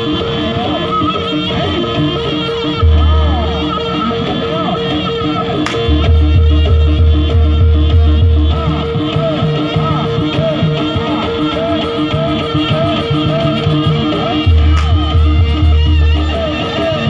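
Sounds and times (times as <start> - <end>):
traditional ensemble music: 0.0 - 17.0
deep bass notes: 2.8 - 16.9.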